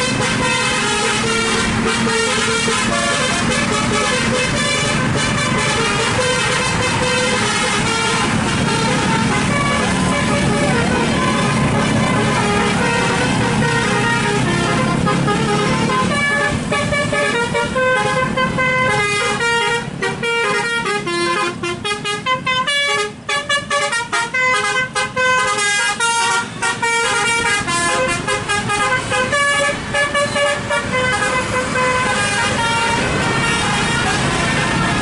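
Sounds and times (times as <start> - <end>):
bus air horn playing a melody: 0.0 - 35.0.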